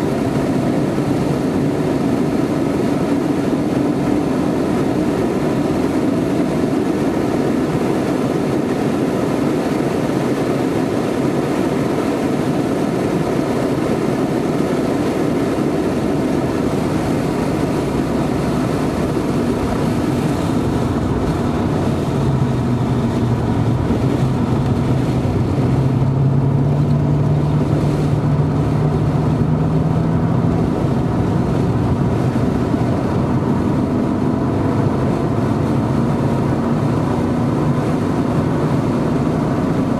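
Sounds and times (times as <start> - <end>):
car engine running hard: 0.0 - 39.9
road and wind noise: 0.0 - 39.9.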